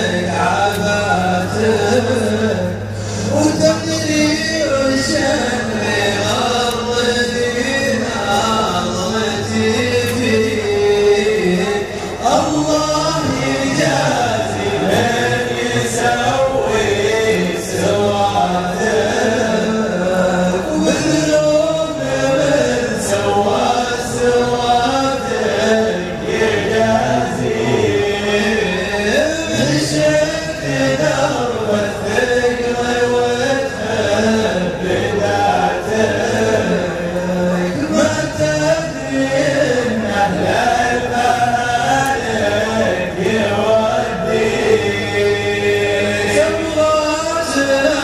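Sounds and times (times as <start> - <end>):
backing vocals: 0.0 - 48.0
men chanting a cappella: 0.0 - 48.0
steady low hum: 0.0 - 48.0.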